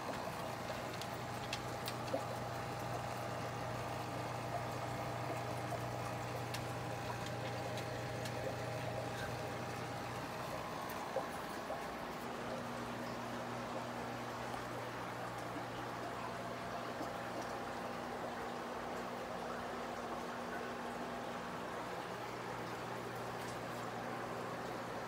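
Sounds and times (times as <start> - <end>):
aquarium pumps humming: 0.0 - 25.0
water trickling and bubbling: 0.0 - 25.0.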